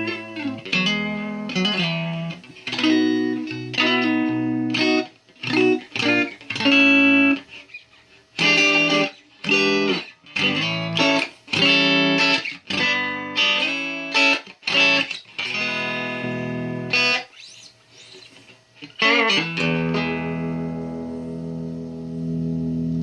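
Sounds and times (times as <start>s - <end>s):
electric guitar chords: 0.0s - 23.0s.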